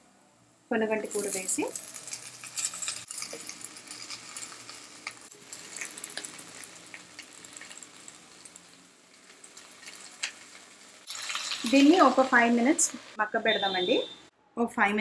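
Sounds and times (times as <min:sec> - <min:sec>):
leaves sizzling in hot oil: 0:00.8 - 0:14.0.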